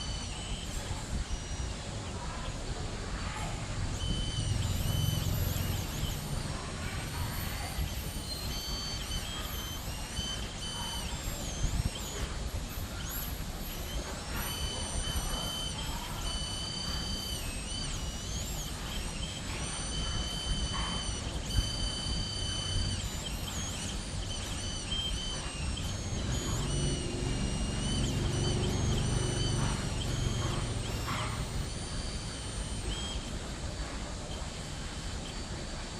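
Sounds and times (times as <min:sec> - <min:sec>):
stepper motors whining: 0:00.0 - 0:35.9.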